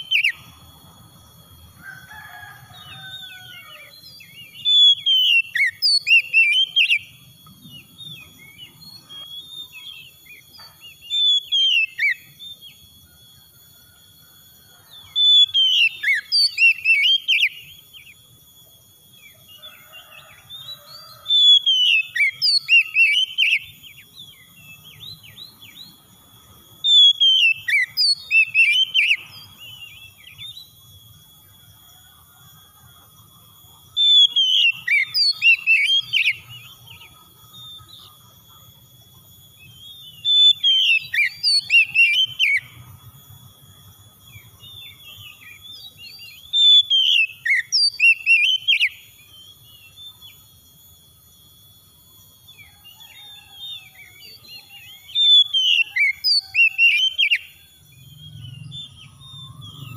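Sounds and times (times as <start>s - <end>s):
bird singing whistled phrases: 0.0s - 0.6s, 2.2s - 13.4s, 14.8s - 26.0s, 26.8s - 31.3s, 33.9s - 38.2s, 39.3s - 42.8s, 44.2s - 50.6s, 52.5s - 59.9s.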